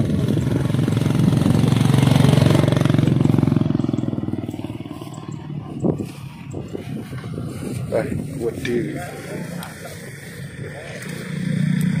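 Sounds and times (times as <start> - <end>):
scooter engine passing: 0.0 - 12.0.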